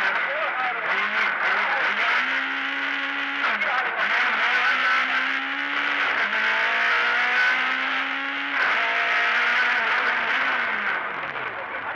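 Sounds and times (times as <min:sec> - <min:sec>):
rally car engine accelerating: 0:00.0 - 0:11.9.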